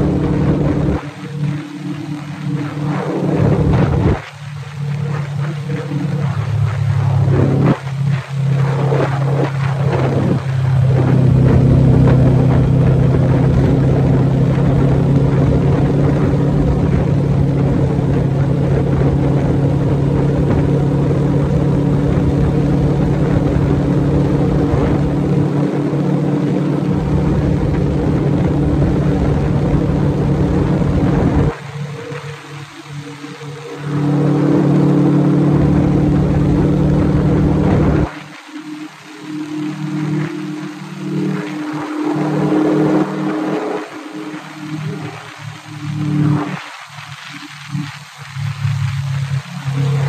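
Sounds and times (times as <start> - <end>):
motorcycle engine cruising: 0.0 - 50.0.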